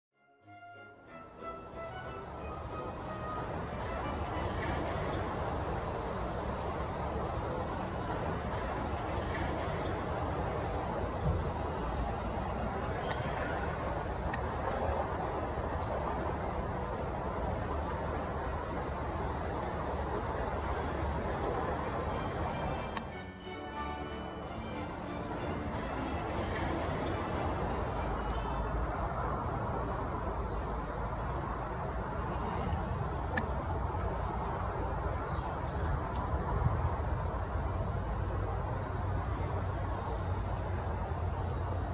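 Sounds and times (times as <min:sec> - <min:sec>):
low outdoor rumble: 0:01.4 - 0:41.9.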